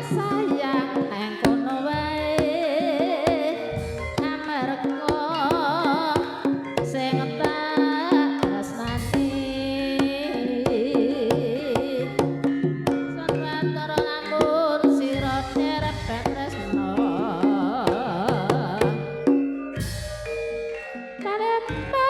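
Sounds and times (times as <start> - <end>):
hand drum rhythm: 0.0 - 22.0
sustained instrumental tones: 0.0 - 22.0
wavering melody line: 0.0 - 22.0.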